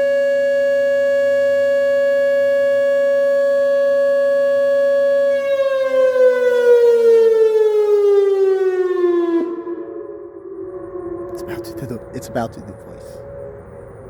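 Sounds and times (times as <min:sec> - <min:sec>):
electronic warning siren: 0:00.0 - 0:14.0.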